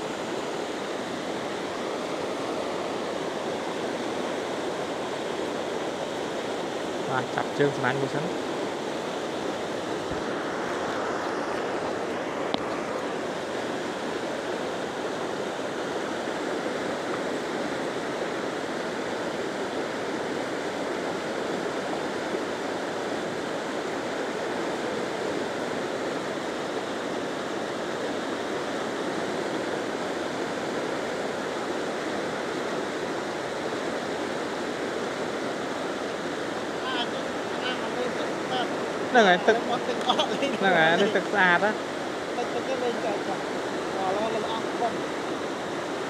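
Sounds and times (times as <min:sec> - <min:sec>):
floodwater rushing: 0:00.0 - 0:46.0.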